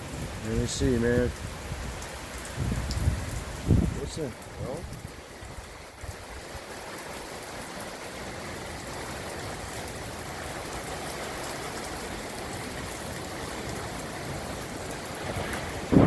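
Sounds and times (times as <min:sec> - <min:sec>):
heavy rain: 0:00.0 - 0:16.0
water gushing from gutter: 0:00.0 - 0:16.0.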